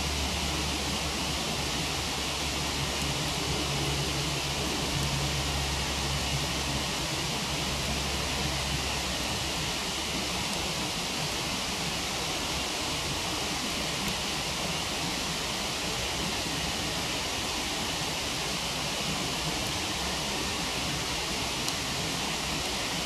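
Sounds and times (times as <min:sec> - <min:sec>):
campfire crackles: 0:00.0 - 0:23.0
waterfall rushing: 0:00.0 - 0:23.0.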